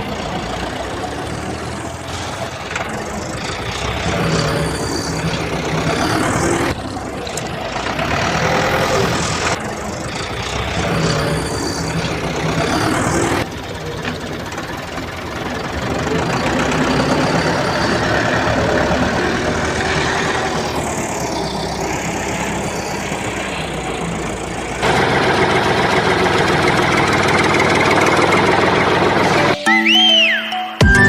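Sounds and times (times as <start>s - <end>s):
engine-like machine running: 0.0s - 29.6s.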